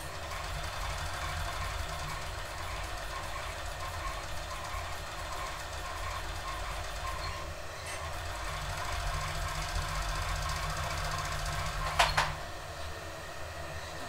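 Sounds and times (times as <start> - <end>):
overlock machine sewing: 0.0 - 12.6.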